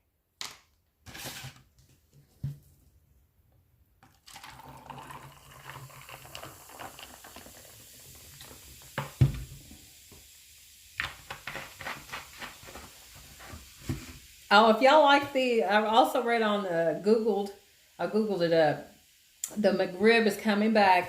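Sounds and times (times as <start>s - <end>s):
soda fizzing and pouring: 4.0s - 21.0s.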